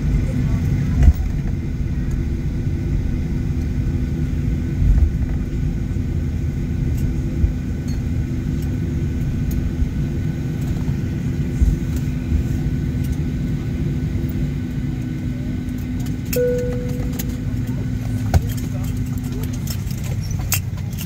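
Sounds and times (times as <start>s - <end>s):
jet engines low rumble: 0.0s - 21.0s
steady cabin hum: 0.0s - 21.0s.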